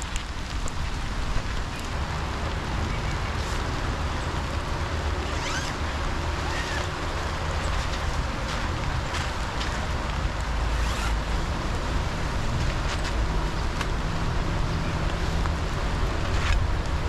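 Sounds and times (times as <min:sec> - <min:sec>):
rain: 0:00.0 - 0:17.0
wind buffeting microphone: 0:00.0 - 0:17.0.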